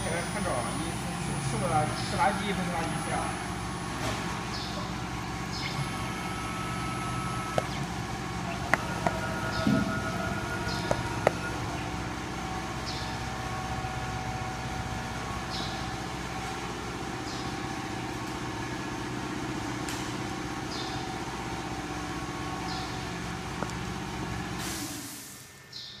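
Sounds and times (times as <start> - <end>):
router spindle running: 0.0 - 24.6.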